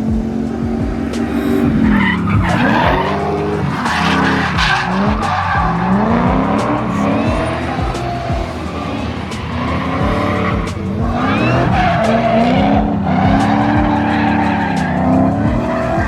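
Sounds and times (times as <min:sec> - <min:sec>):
car engine revving hard: 0:00.0 - 0:16.0
tyres skidding and squealing: 0:00.0 - 0:16.0.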